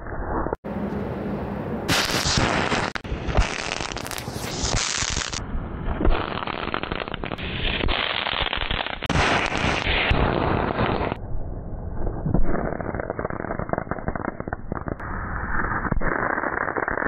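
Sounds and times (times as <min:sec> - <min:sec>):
firecrackers crackling and popping: 0:01.9 - 0:11.2, 0:12.3 - 0:17.0.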